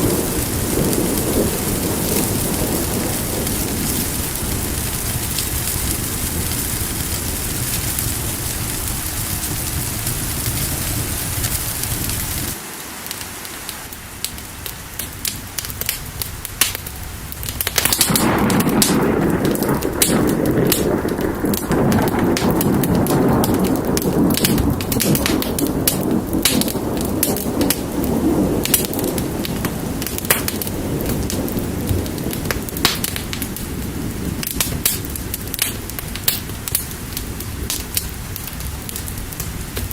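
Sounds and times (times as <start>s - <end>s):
fire crackling with sharp pops: 0.0s - 39.9s
rumble of rain and thunder: 0.0s - 39.9s
steady rain: 0.0s - 39.9s.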